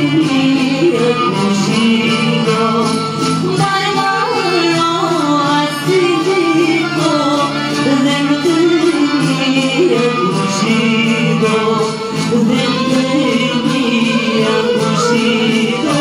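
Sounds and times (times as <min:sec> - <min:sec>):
folk ensemble playing: 0:00.0 - 0:16.0.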